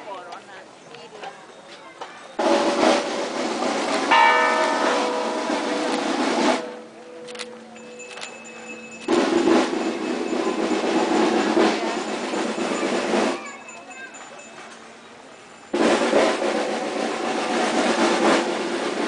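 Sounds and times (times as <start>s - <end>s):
church bells clanging: 2.3s - 18.6s.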